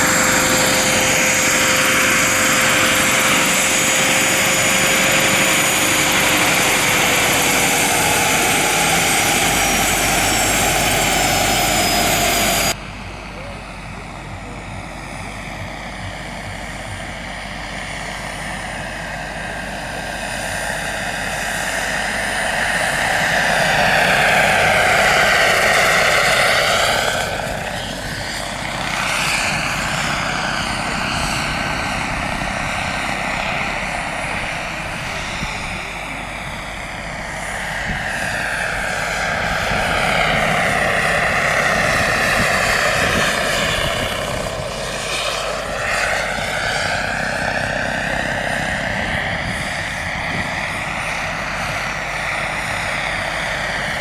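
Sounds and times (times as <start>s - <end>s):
model helicopter flying past: 0.0s - 12.8s, 15.0s - 54.0s.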